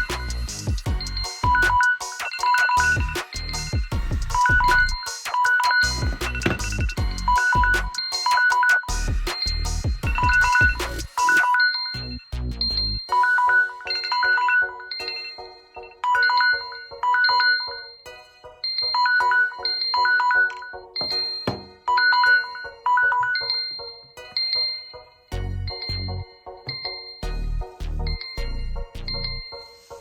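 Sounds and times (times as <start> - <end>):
mobile phone ringtone melody: 1.0 - 30.0.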